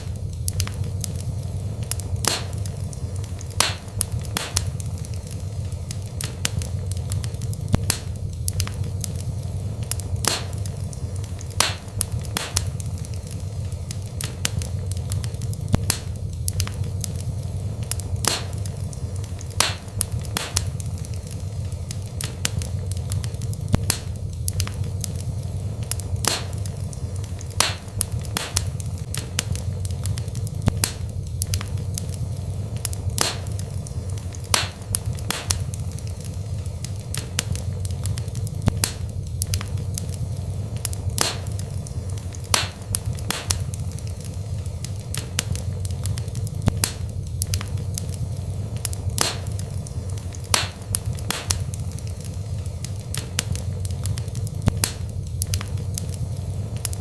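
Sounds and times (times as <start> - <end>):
low rumble of flames: 0.0 - 57.0
wood crackling and popping: 0.0 - 57.0.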